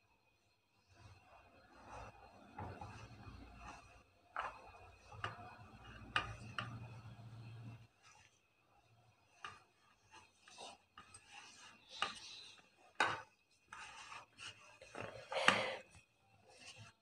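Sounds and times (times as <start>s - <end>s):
dough scraping against metal bowl: 1.0s - 15.8s, 16.4s - 17.0s.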